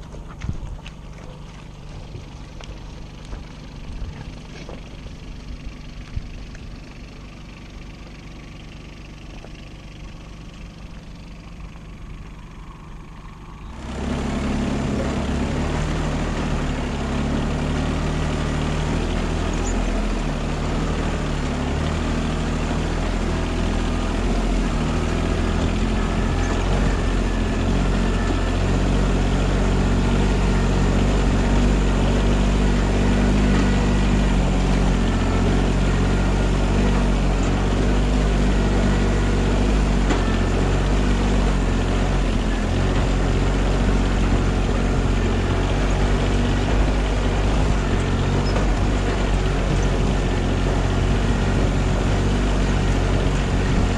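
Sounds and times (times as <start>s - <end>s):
vehicle engine running: 0.0s - 53.9s.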